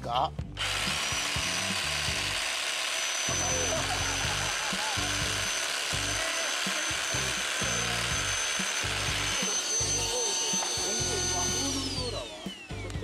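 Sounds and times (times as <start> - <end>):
cordless drill whining: 0.6 - 13.0.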